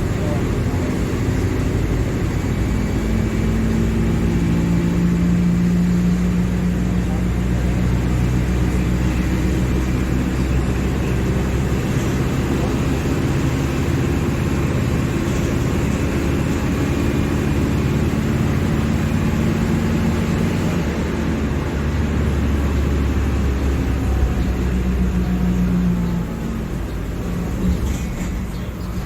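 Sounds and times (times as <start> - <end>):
bus diesel engine running: 0.0 - 29.0.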